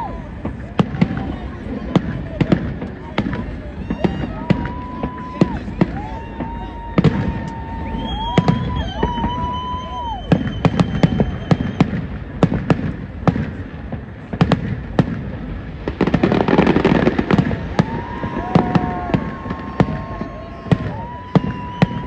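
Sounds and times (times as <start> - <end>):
fireworks whistling: 0.0 - 13.6, 15.8 - 22.0
fireworks bangs and crackles: 0.0 - 22.0.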